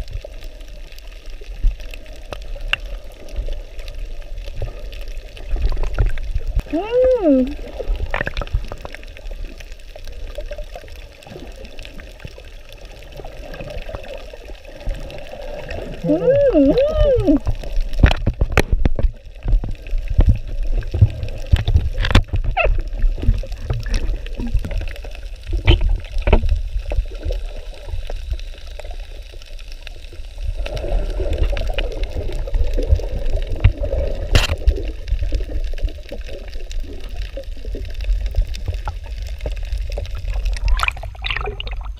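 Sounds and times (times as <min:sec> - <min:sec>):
seawater sloshing and gurgling: 0:02.9 - 0:28.1, 0:30.4 - 0:41.9.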